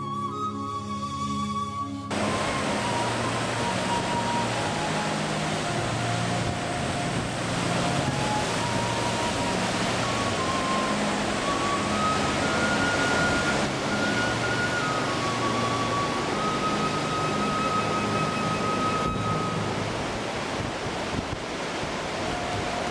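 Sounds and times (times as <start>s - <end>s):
slow flute-like melody: 0.0s - 20.2s, 22.0s - 22.9s
loud steady rushing noise: 2.1s - 22.9s.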